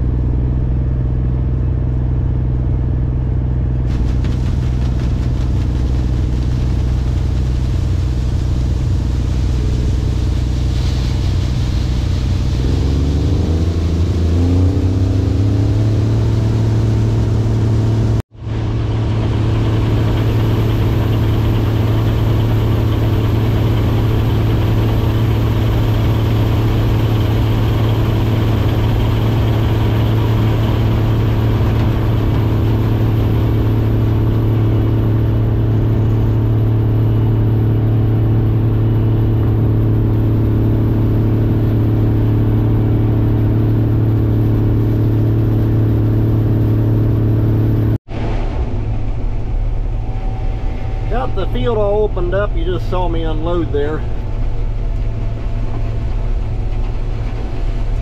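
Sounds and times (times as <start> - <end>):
combine harvester humming: 0.0 - 58.0.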